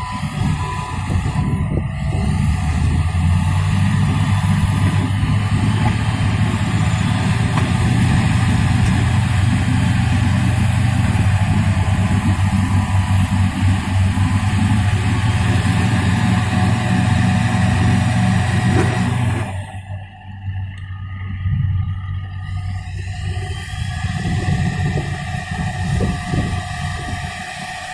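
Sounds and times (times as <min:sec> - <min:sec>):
truck engine running under load: 0:00.0 - 0:27.9.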